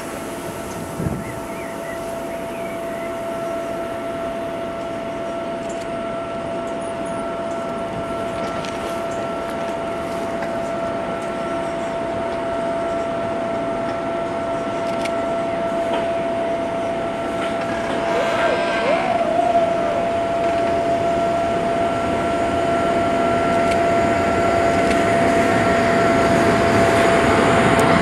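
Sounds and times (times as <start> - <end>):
electric locomotive idling hum: 0.0 - 28.0.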